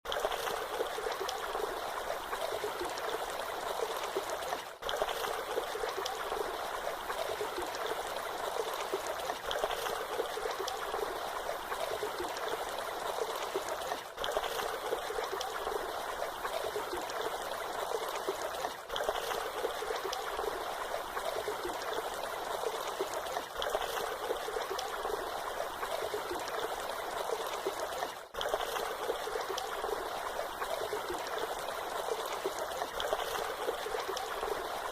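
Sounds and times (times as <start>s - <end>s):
small waterfall splashing: 0.1s - 34.9s.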